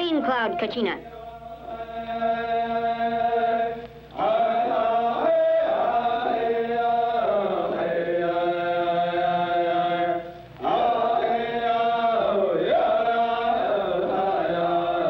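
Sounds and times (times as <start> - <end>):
wordless chanting on held notes: 0.0 - 15.0.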